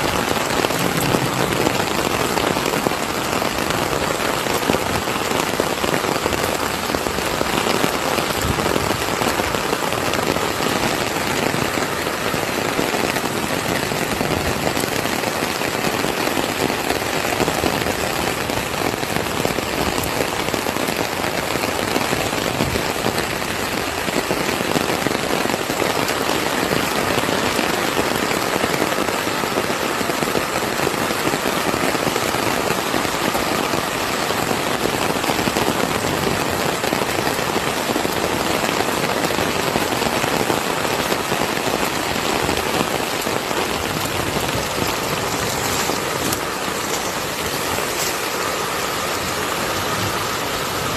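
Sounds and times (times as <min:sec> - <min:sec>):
heavy rain pattering: 0:00.0 - 0:50.9.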